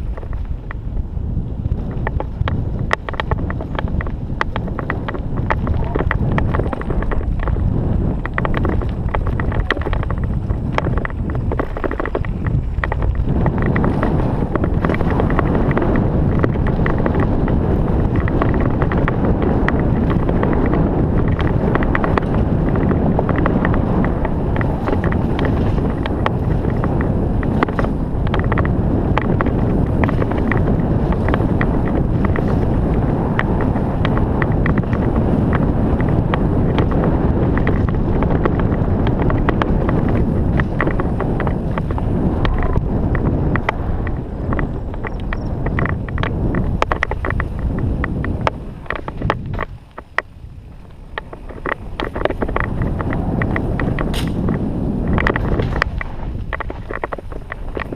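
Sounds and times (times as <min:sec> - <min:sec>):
mountain bike rattling over trail: 0:00.0 - 0:57.9
wind buffeting microphone: 0:00.0 - 0:57.9.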